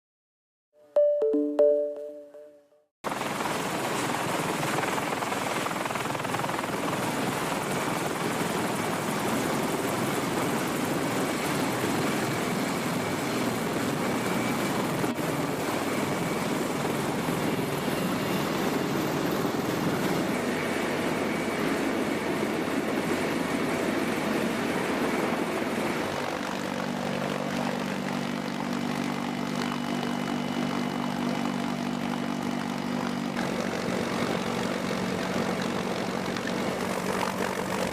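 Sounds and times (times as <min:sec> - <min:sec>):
helicopter engines and rotors roaring: 0:03.1 - 0:37.9.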